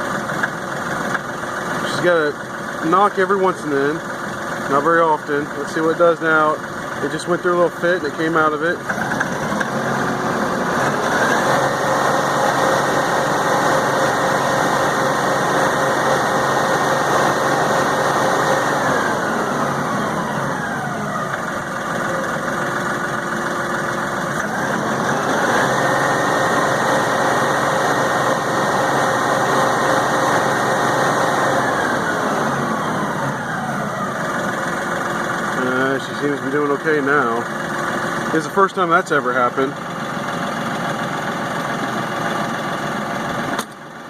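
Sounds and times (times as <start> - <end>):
tractor diesel engine revving: 0.0 - 44.0.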